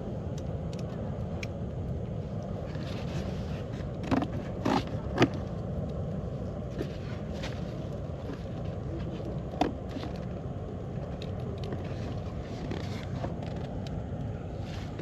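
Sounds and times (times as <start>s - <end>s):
campfire burning: 0.0s - 15.0s
fire crackles and pops: 0.0s - 15.0s.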